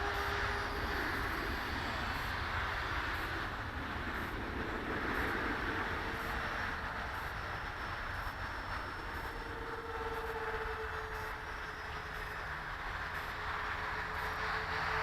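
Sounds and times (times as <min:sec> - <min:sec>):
model jet electric fans whooshing: 0:00.0 - 0:15.0.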